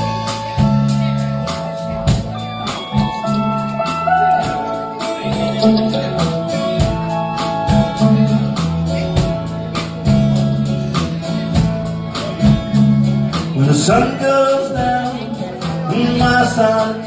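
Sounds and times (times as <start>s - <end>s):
live country band playing: 0.0s - 17.0s.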